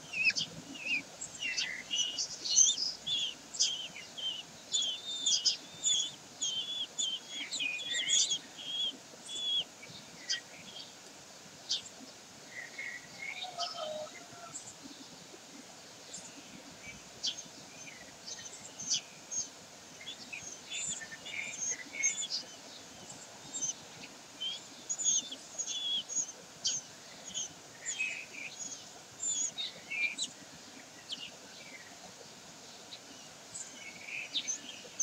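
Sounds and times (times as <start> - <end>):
birds chirping: 0.0 - 11.0, 11.6 - 35.0
steady hiss: 0.0 - 35.0.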